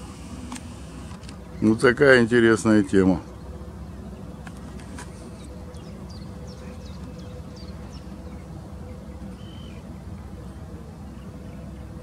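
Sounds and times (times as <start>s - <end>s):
birds chirping: 0.0s - 12.0s
faint steady hum: 0.0s - 12.0s.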